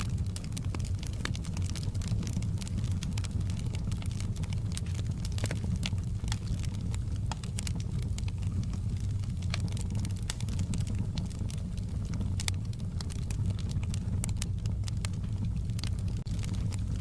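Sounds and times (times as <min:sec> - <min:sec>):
campfire wood crackling and popping: 0:00.0 - 0:17.0
flames rumbling: 0:00.0 - 0:17.0.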